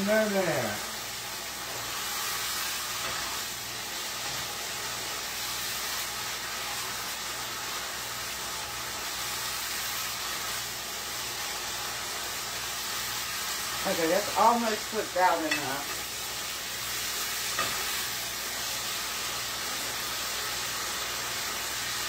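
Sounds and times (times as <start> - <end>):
meat sizzling in a pot: 0.0 - 22.0.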